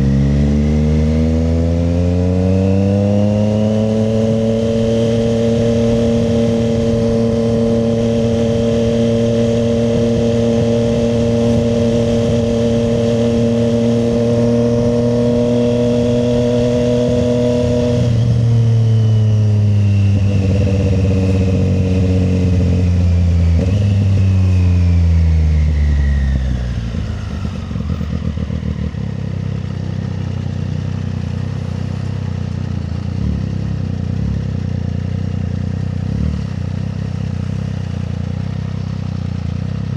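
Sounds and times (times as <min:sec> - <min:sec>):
motorcycle engine downshifting: 0:00.0 - 0:39.9.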